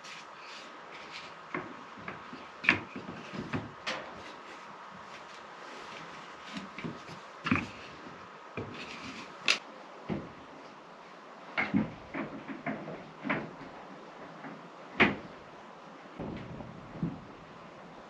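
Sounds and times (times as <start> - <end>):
objects knocking and clunking: 1.0 - 5.3, 5.9 - 10.4, 11.6 - 15.4, 16.2 - 18.0.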